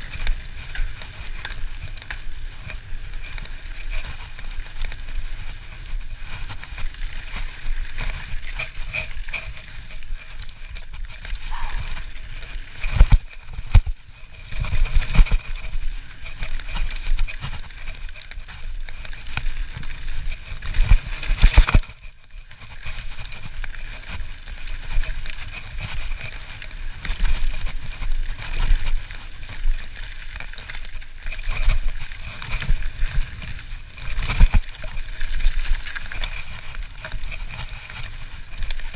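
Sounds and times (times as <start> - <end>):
bike tyres rumbling on gravel: 0.0 - 38.9.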